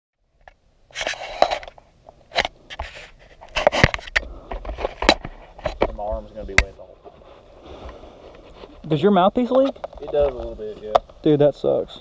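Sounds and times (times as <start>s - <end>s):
microphone handling scraping: 0.9s - 11.3s.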